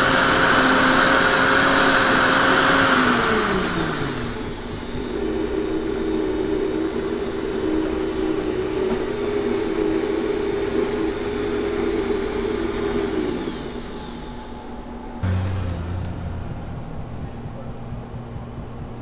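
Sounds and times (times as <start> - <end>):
blender motor whining: 0.0 - 16.7.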